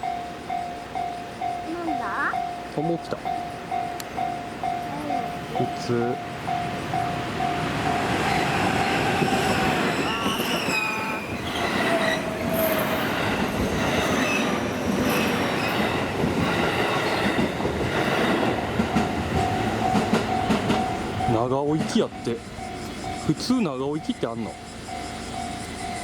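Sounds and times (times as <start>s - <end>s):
electric train rumbling past: 0.0s - 26.0s
wheels clattering on rails: 0.0s - 26.0s
wheels squealing: 1.7s - 26.0s.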